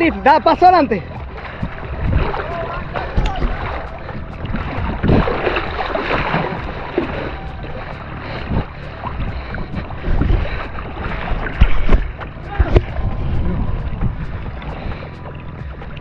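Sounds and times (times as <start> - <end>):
shallow water sloshing: 0.6 - 16.0
wind on microphone: 1.0 - 16.0.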